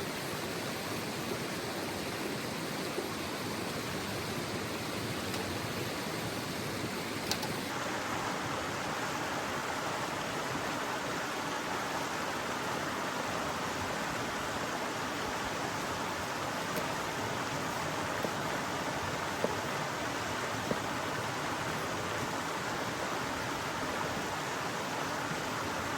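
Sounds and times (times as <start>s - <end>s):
mountain river rushing: 0.0s - 25.9s.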